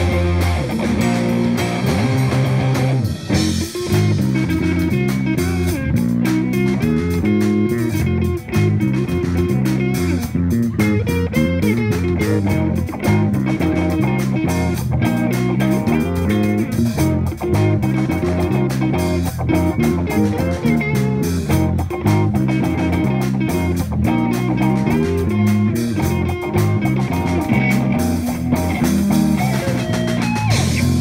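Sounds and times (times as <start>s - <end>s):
bass guitar line: 0.0s - 31.0s
drum kit: 0.0s - 31.0s
electric guitars: 0.0s - 31.0s.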